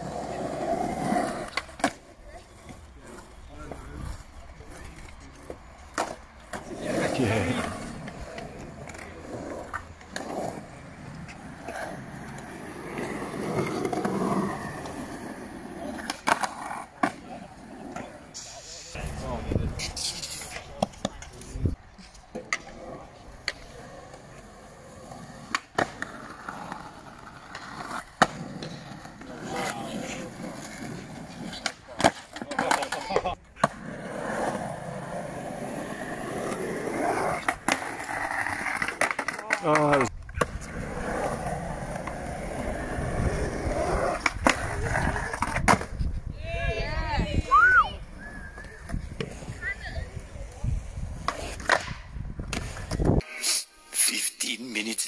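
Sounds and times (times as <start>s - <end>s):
skateboard clacking on ground: 0.0s - 15.0s, 15.8s - 24.6s, 25.4s - 35.0s, 35.6s - 46.1s, 51.2s - 54.1s
skateboard scraping concrete ledge: 0.0s - 46.2s
skateboard wheels rolling on concrete: 0.0s - 55.0s.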